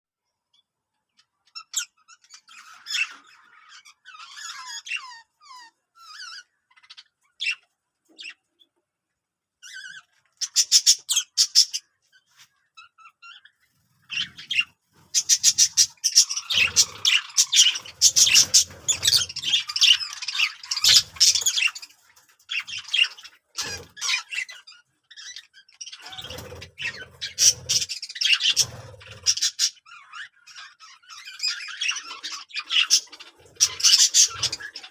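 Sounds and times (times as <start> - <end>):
budgerigars chirping and warbling: 0.5 - 8.8, 9.6 - 34.9.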